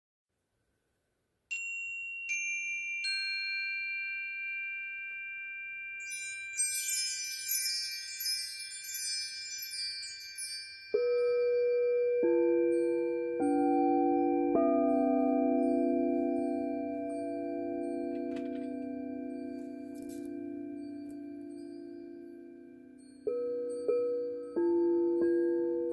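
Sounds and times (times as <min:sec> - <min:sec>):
metal chime bars ringing: 0:01.5 - 0:13.8, 0:15.6 - 0:25.9
crystal singing bowl ringing: 0:01.5 - 0:25.9
high jingling shimmer: 0:01.5 - 0:25.9.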